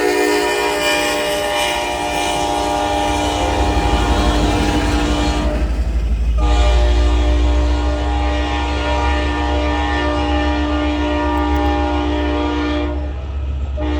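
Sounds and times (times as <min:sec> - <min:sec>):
locomotive horn blast: 0:00.0 - 0:13.9
low train rumble: 0:00.0 - 0:13.9.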